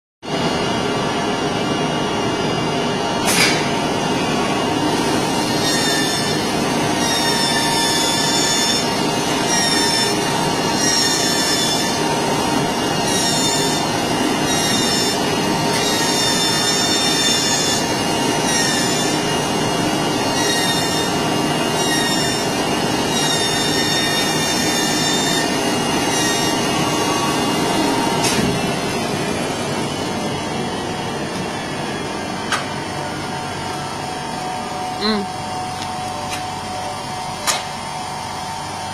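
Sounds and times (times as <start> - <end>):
cutting machine running: 0.3 - 38.9
short high machine whines: 0.3 - 38.9.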